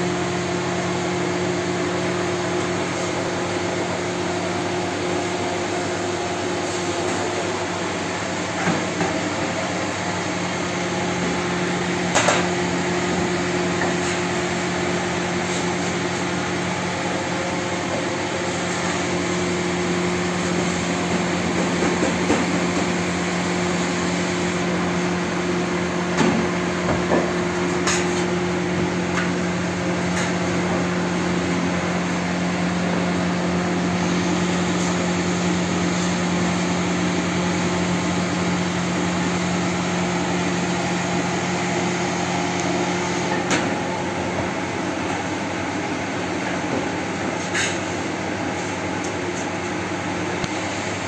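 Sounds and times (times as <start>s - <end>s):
machinery humming: 0.0s - 51.0s.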